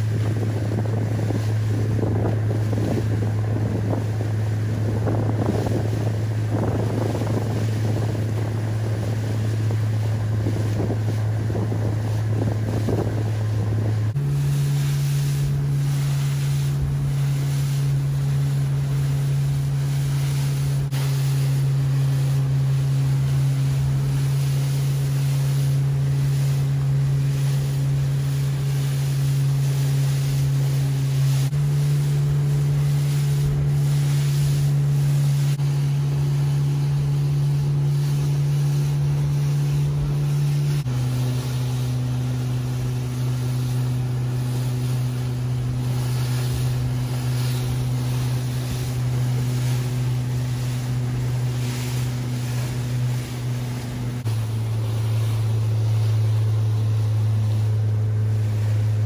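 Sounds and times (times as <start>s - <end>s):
wind buffeting microphone: 0.0s - 29.7s, 30.4s - 59.0s
motorboat engine humming: 0.0s - 59.0s
sea water lapping: 0.0s - 59.0s
water rushing beneath boat: 0.0s - 59.0s.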